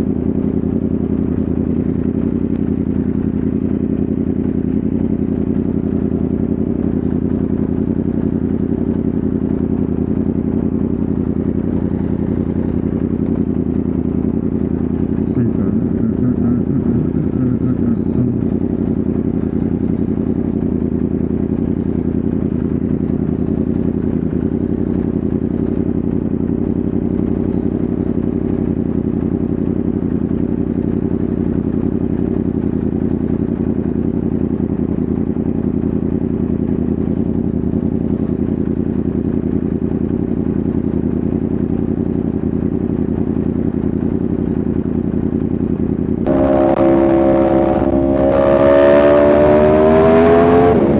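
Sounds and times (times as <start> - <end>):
motorcycle engine droning: 0.0 - 50.9.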